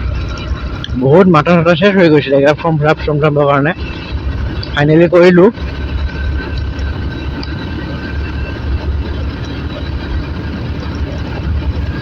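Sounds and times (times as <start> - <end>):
faint steady whine: 0.0 - 12.0
motorcycle engine: 0.0 - 12.0
wind buffeting microphone: 0.0 - 12.0.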